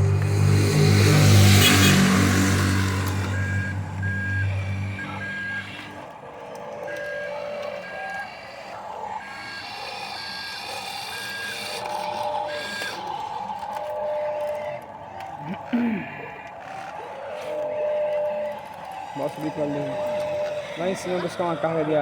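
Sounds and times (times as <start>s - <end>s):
low engine-like drone: 0.0s - 22.0s
reversing alarm beeping: 0.3s - 6.1s, 6.8s - 14.8s, 17.5s - 22.0s.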